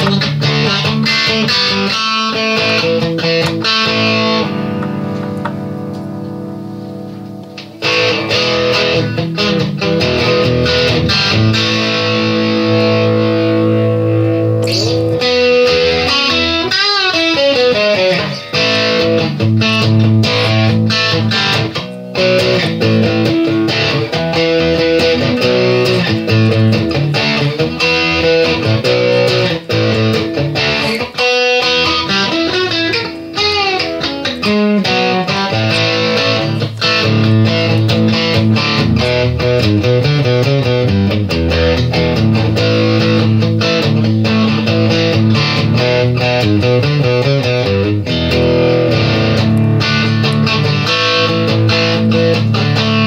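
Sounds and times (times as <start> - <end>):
electric guitar music: 0.0 - 53.0.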